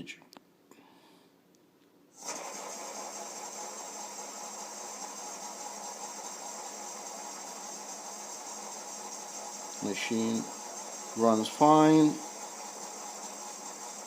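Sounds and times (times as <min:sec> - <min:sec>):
motor whirring: 0:02.2 - 0:14.0.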